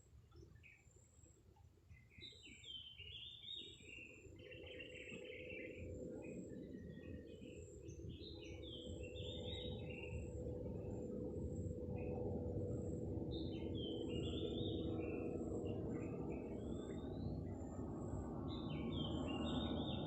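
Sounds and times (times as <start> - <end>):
faint steady hum: 0.0 - 20.0
small birds chirping: 1.9 - 20.0.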